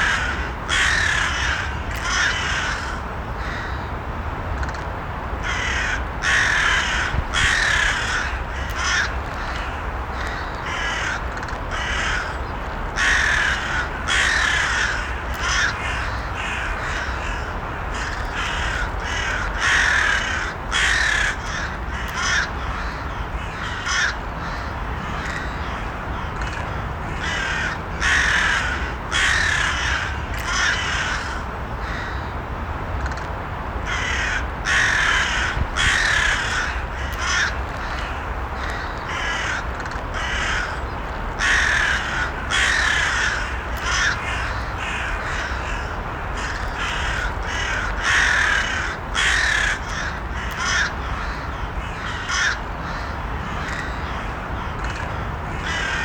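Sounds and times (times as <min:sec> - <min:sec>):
crows cawing: 0:00.0 - 0:03.9, 0:05.4 - 0:32.3, 0:33.8 - 0:56.0
low background noise: 0:00.0 - 0:56.0.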